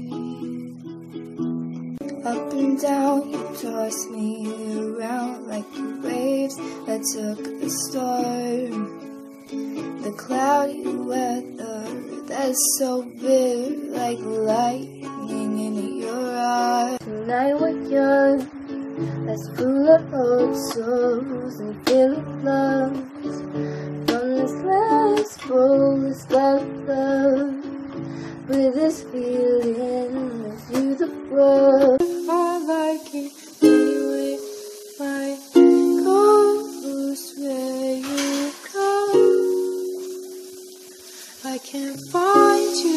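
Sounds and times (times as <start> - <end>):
woman singing: 0.0 - 1.2, 2.0 - 40.5, 41.2 - 42.9
acoustic guitar: 0.0 - 42.9
recording hiss: 0.0 - 42.9.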